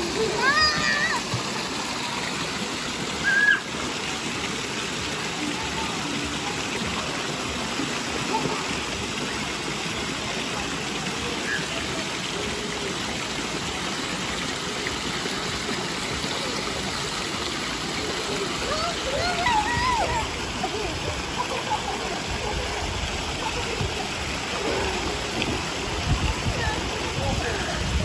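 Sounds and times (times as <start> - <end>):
waterfall spilling into pool: 0.0 - 28.0.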